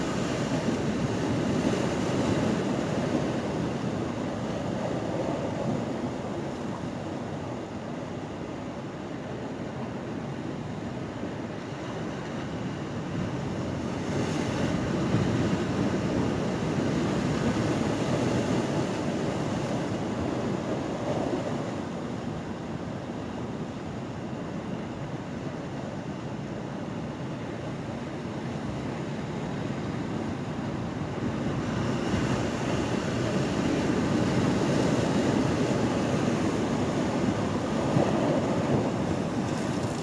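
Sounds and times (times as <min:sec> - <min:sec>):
ocean surf rushing: 0:00.0 - 0:23.5, 0:27.8 - 0:40.0.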